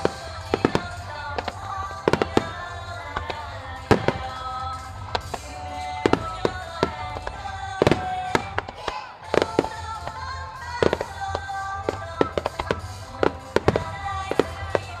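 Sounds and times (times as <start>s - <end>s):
firework shells bursting: 0.0s - 15.0s
music: 0.0s - 15.0s.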